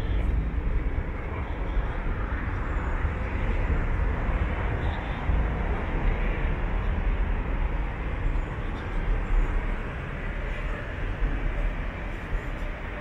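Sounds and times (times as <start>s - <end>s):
passing traffic: 0.0s - 13.0s
strong low rumble: 0.0s - 13.0s.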